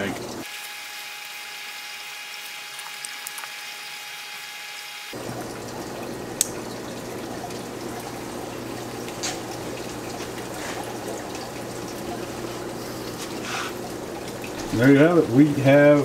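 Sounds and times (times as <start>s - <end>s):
aquarium filter water trickling: 0.0s - 16.0s.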